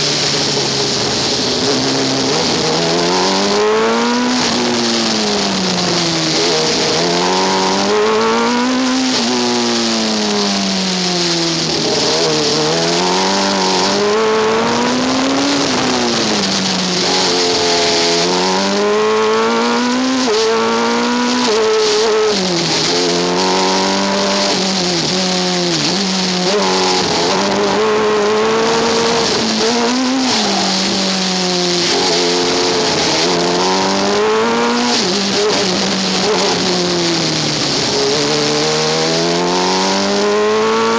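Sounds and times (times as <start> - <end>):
race car engine accelerating: 0.0 - 40.9.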